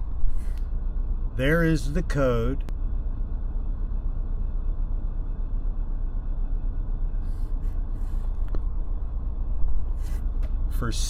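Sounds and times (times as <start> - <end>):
vehicle idling: 0.0 - 11.0.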